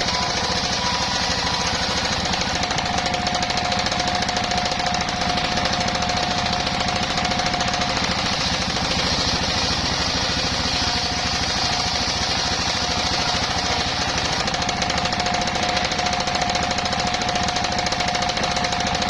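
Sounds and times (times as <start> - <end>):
free-spinning blade ringing: 0.0 - 19.0
saw blade cutting log: 0.0 - 19.0
sawmill engine pulse: 0.0 - 19.0.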